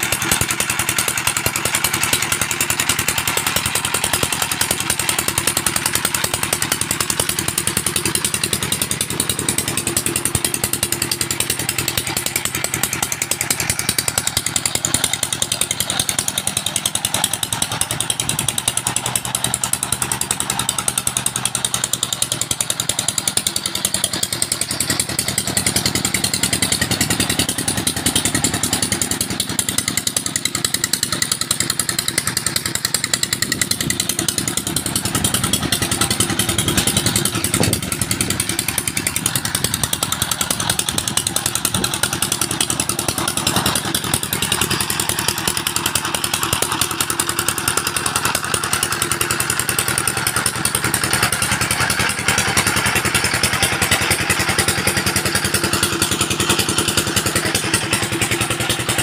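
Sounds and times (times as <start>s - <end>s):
single-cylinder diesel engine running: 0.0s - 59.0s.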